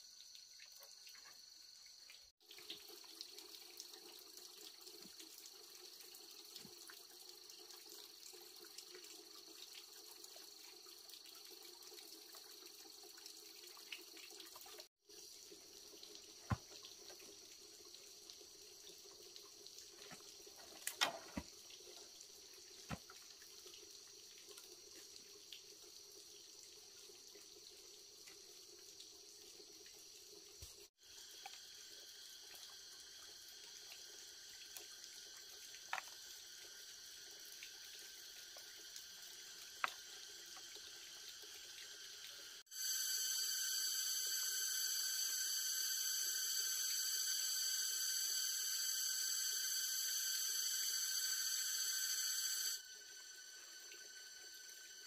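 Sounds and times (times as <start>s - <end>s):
faint running water: 0.0s - 55.0s.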